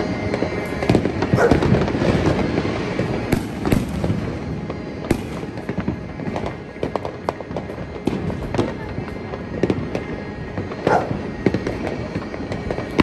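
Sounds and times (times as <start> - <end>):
firework bangs: 0.0 - 13.0
fireworks crackling: 0.0 - 13.0.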